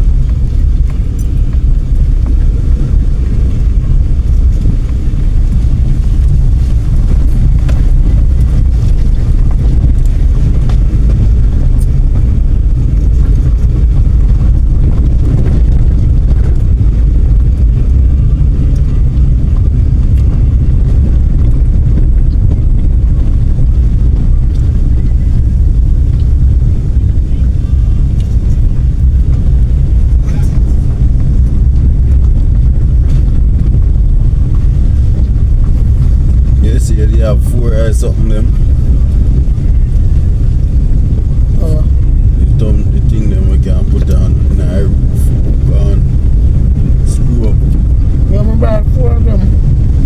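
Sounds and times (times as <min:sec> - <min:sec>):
car driving rumble: 0:00.0 - 0:50.0.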